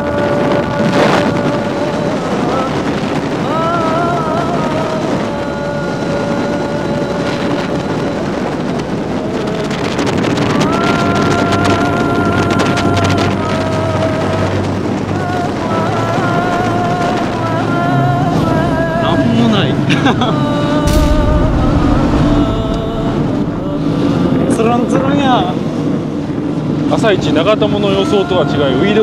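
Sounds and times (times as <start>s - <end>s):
choppy water: 0.0s - 29.0s
outboard motor whine: 0.0s - 29.0s
wind buffeting microphone: 0.0s - 29.0s.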